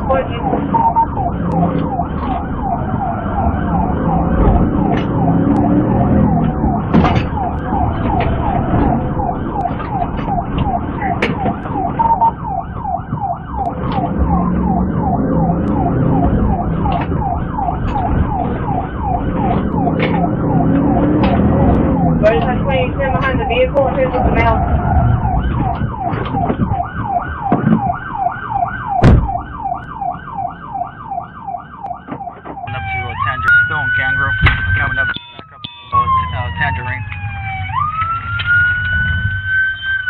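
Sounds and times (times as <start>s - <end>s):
car engine and road noise: 0.0s - 40.0s
police siren yelping: 0.0s - 40.0s.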